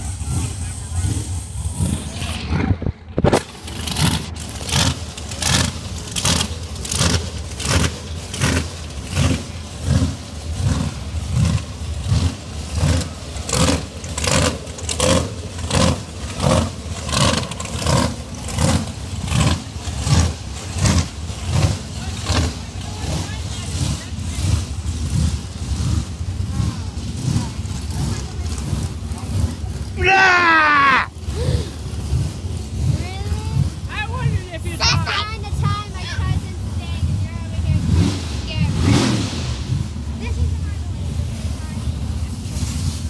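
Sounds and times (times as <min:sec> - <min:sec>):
low steady rumble: 0:00.0 - 0:43.0.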